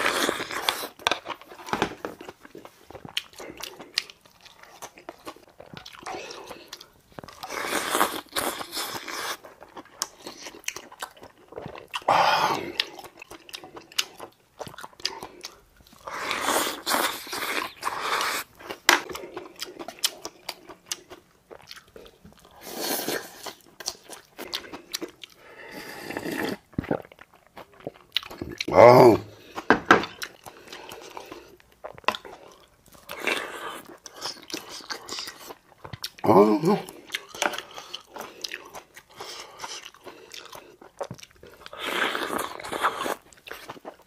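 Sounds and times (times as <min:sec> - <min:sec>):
person chewing and crunching food: 0:00.0 - 0:44.0.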